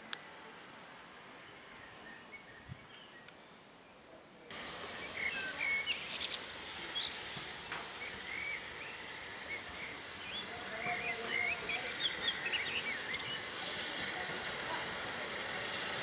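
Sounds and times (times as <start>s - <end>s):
outdoor background hiss: 0.0s - 16.0s
birds chirping and trilling: 1.3s - 14.6s.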